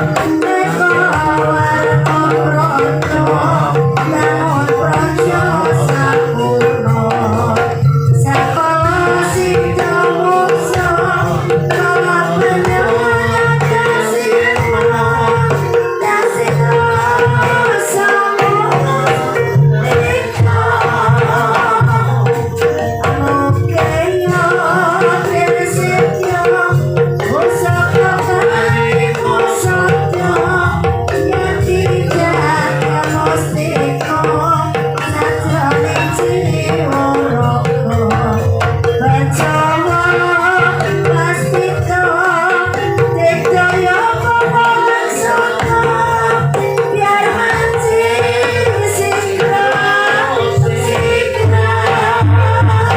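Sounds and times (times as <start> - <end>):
hand drums playing rhythm: 0.0 - 52.9
person singing: 0.0 - 52.9.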